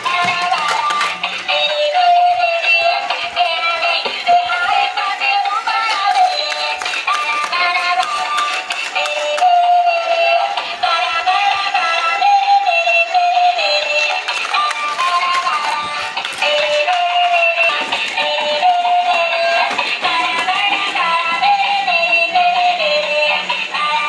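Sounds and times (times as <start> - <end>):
toy playing electronic tune: 0.1 - 19.8.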